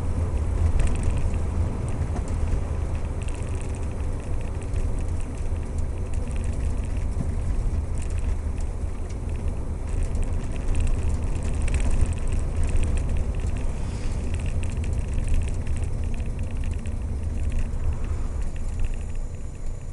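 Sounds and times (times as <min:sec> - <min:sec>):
car engine rumble: 0:00.0 - 0:19.9
road noise: 0:00.0 - 0:19.9.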